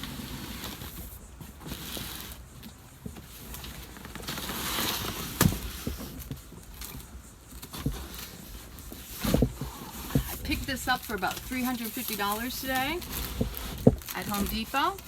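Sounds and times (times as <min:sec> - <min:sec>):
cardboard box rustling: 0:00.0 - 0:15.0.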